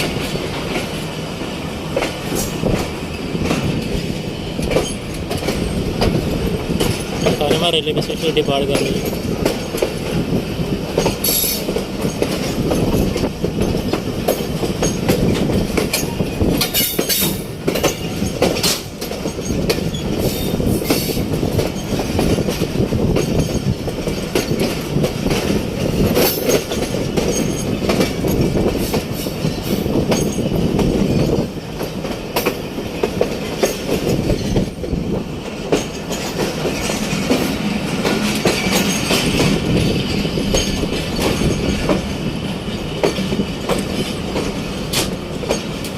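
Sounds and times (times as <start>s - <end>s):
rail joints clacking: 0.0s - 45.9s
train wheels rumbling: 0.0s - 45.9s.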